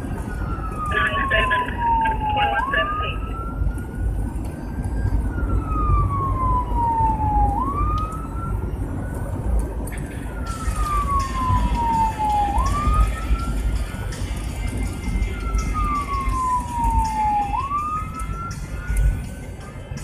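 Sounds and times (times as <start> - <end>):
siren wailing: 0.0 - 19.3
engine and road rumble: 0.0 - 20.0.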